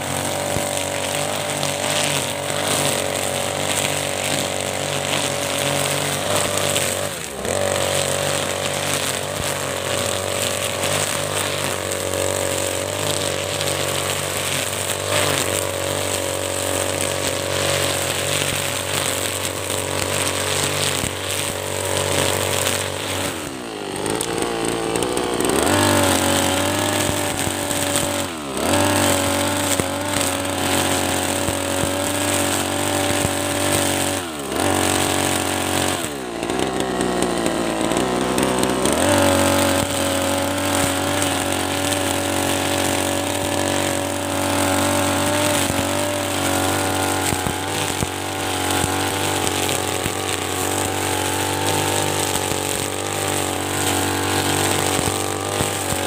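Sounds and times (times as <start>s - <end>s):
brush cutter engine running: 0.0s - 56.0s
trimmer line whipping through grass: 0.0s - 56.0s.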